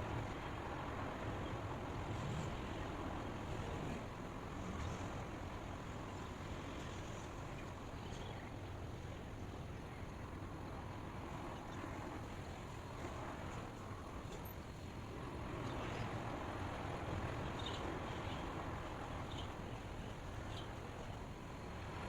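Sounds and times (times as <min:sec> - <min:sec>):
white noise hiss and rumble: 0:00.0 - 0:22.0.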